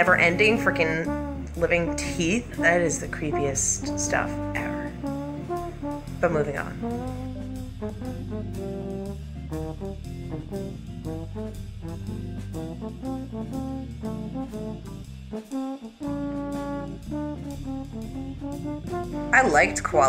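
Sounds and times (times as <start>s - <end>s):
jazzy music with brass: 0.0s - 20.0s.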